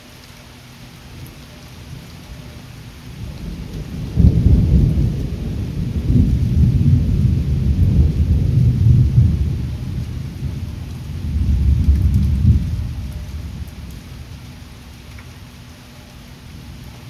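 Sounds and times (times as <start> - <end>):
steady rain: 0.0 - 17.0
wind gusting against microphone: 1.1 - 17.0.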